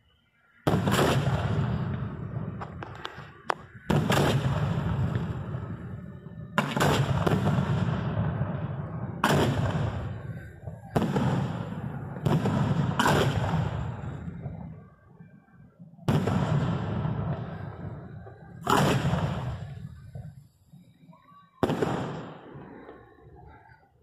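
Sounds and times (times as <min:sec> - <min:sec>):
fireworks booming: 0:00.6 - 0:24.0.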